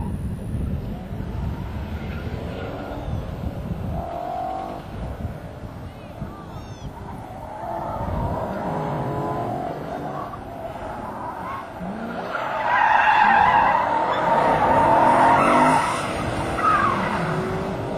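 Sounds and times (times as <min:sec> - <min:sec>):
car engine revving: 0:00.9 - 0:05.8, 0:07.0 - 0:17.9
tires squealing: 0:01.0 - 0:17.9.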